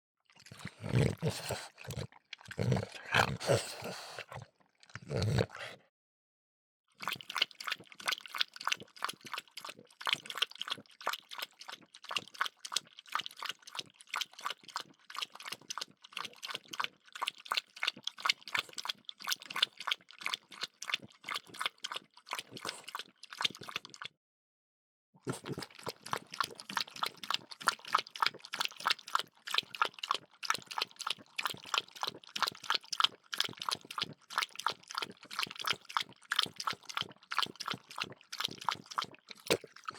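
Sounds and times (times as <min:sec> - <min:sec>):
dog lapping water from bowl: 0:00.3 - 0:05.8, 0:07.0 - 0:24.1, 0:25.3 - 0:39.9.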